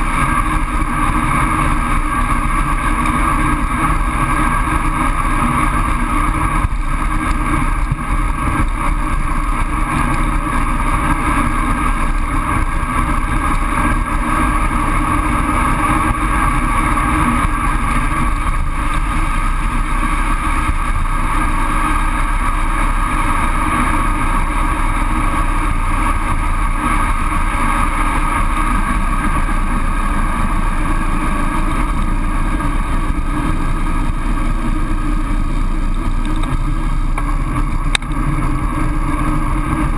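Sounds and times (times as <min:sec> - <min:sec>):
road rumble from bike: 0:00.0 - 0:39.9.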